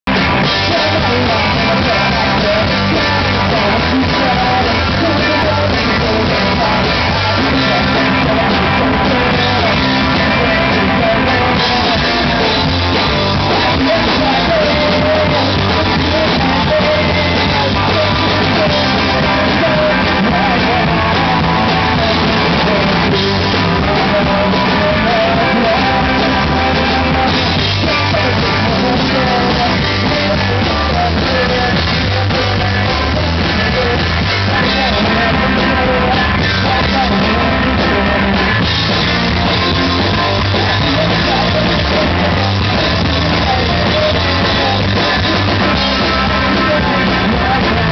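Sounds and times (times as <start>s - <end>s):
bass guitar: 0.0s - 47.9s
distorted electric guitars: 0.0s - 47.9s
drums: 0.0s - 47.9s
person singing: 0.1s - 47.9s.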